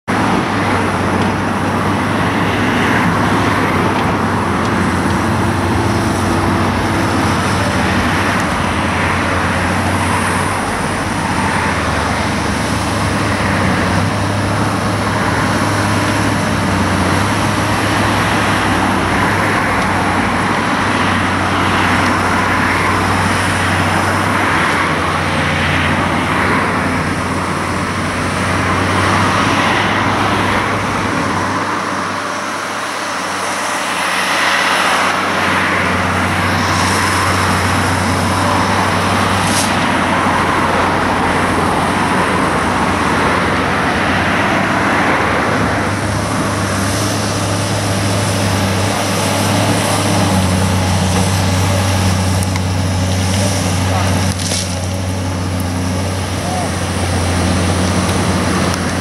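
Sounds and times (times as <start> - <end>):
road traffic: 0.0 - 59.0
excavator diesel engine running: 0.1 - 59.0.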